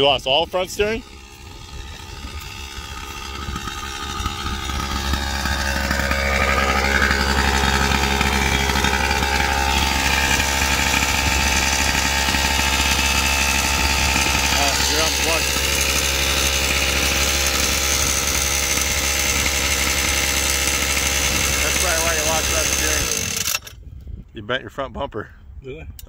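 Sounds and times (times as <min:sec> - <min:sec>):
two-stroke engine idling: 0:00.0 - 0:23.8.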